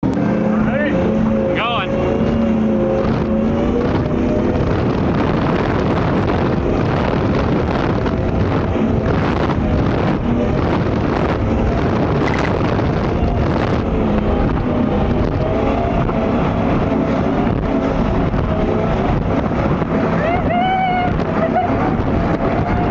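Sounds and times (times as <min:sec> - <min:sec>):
powerboat engines running at speed: 0:00.0 - 0:22.9
wind noise on microphone: 0:00.0 - 0:22.9.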